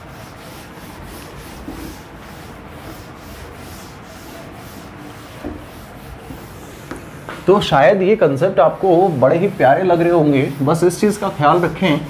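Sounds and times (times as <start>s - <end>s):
eraser rubbing whiteboard: 0.0s - 12.0s.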